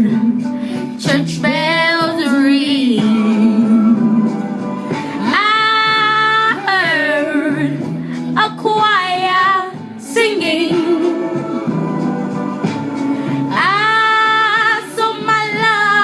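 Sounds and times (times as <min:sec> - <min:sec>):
woman singing a ballad: 0:00.0 - 0:12.6, 0:13.2 - 0:16.0
backing music: 0:00.0 - 0:16.0.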